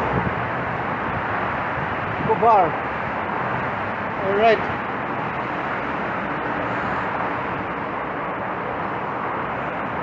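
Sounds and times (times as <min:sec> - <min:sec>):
road traffic roar: 0:00.0 - 0:10.0.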